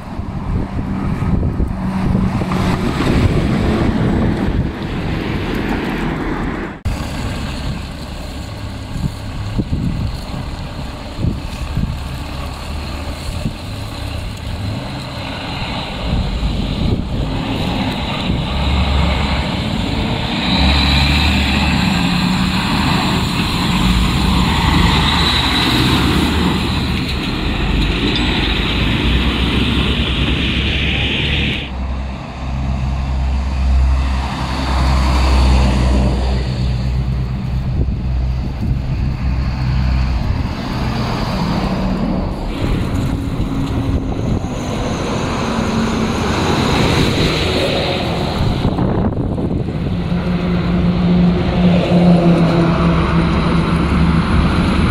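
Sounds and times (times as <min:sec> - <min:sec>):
street traffic: 0:00.0 - 0:54.9
truck diesel engine: 0:00.0 - 0:54.9.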